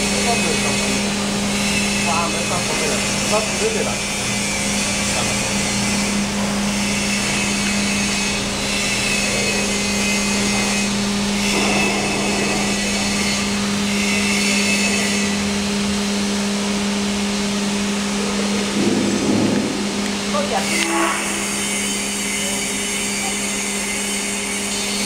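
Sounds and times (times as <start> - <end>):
machinery low hum: 0.0 - 24.0.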